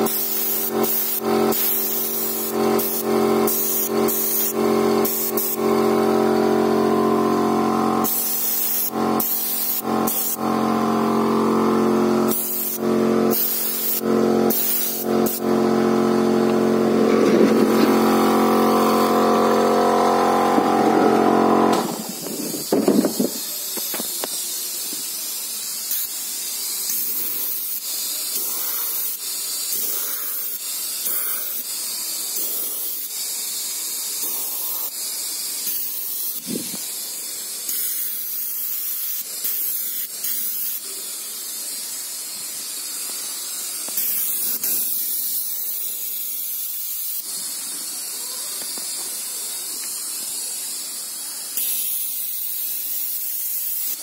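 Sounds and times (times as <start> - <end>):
airbrush spraying hiss: 0.0 - 54.0.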